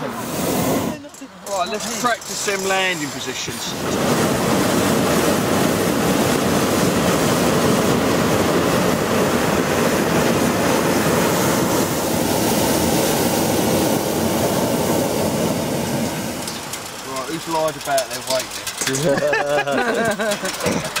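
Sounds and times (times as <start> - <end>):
propane burner blast: 0.0 - 21.0.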